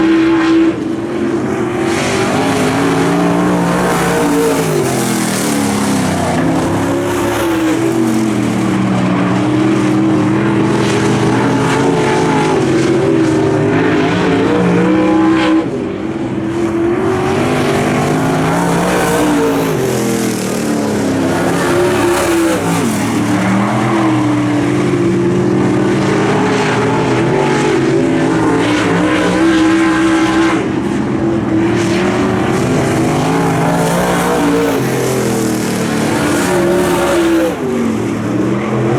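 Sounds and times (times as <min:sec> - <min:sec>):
race car engines revving: 0:00.0 - 0:38.9.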